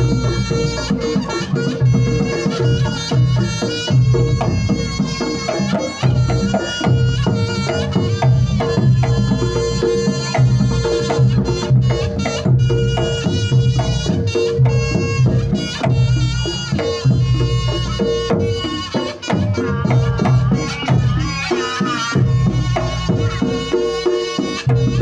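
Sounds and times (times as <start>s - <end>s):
kendang drums rhythm: 0.0s - 25.0s.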